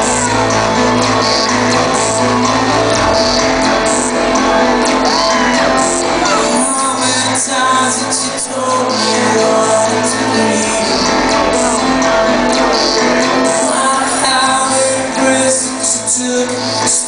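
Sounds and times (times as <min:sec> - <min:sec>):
keyboard chords: 0:00.0 - 0:17.0
live rock band playing: 0:00.0 - 0:17.0
voices shouting and singing: 0:00.0 - 0:17.0.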